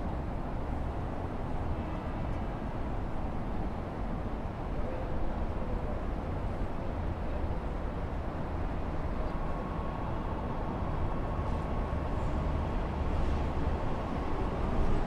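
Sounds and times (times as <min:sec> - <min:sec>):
rail and road traffic rumble: 0:00.0 - 0:15.0.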